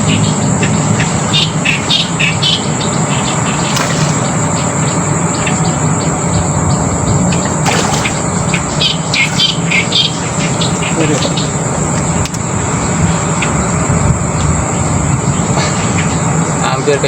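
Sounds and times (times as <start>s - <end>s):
insect chirps: 0.0s - 16.9s
insects droning: 0.0s - 17.0s.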